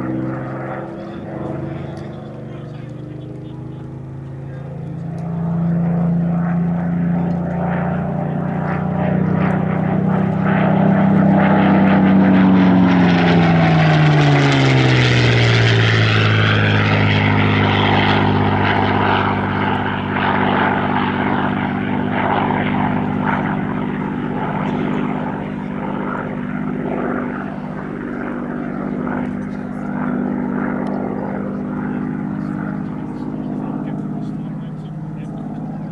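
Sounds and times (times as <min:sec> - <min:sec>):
propeller plane engine passing: 0:00.0 - 0:35.9.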